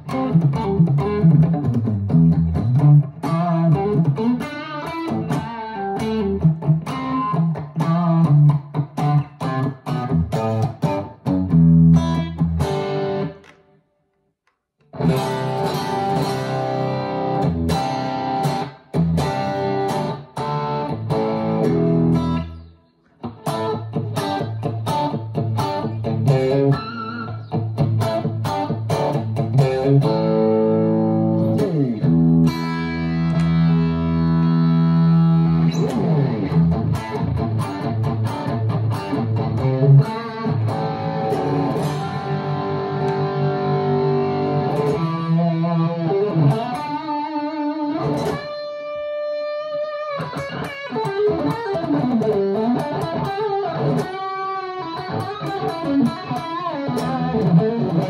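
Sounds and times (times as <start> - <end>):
electric guitar through an amp: 0.0 - 13.7, 14.8 - 58.0.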